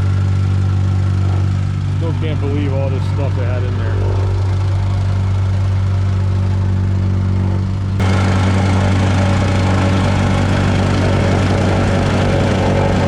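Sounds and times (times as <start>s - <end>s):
heavy equipment engine droning: 0.0s - 13.0s.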